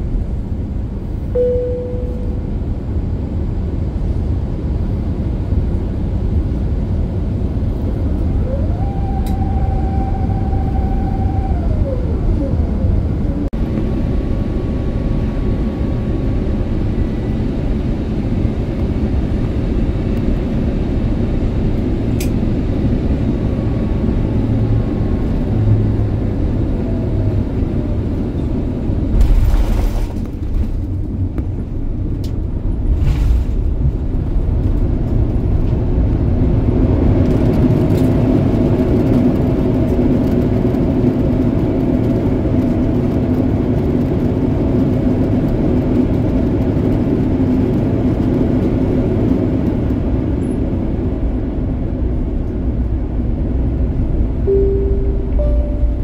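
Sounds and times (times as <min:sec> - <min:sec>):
steady engine tones: 0:00.0 - 0:29.2, 0:33.8 - 0:56.0
airliner engine and airflow rumble: 0:00.0 - 0:56.0.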